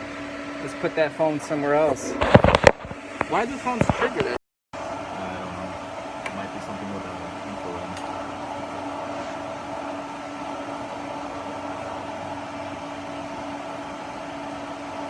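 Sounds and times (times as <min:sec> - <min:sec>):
machine hum with fan noise: 0:00.0 - 0:15.0.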